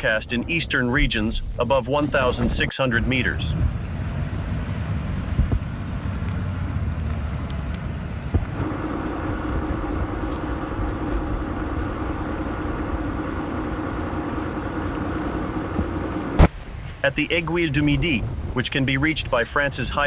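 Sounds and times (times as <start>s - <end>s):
engine hum with pitched tones: 0.0s - 20.0s
vehicle low rumble: 0.0s - 20.0s.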